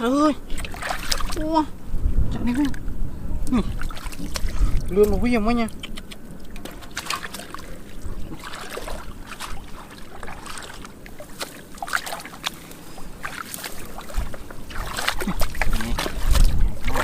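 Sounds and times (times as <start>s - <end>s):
muddy water sloshing and splashing: 0.0s - 1.8s, 3.5s - 17.0s.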